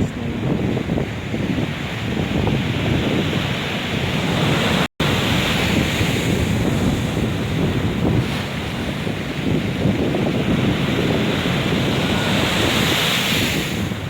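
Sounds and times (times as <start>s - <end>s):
storm surf breaking: 0.0s - 14.0s
wind buffeting microphone: 0.0s - 14.0s.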